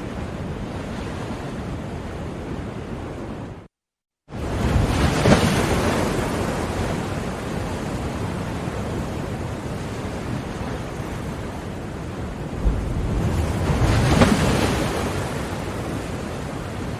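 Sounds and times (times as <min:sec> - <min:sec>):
sea waves on a shore: 0:00.0 - 0:16.9.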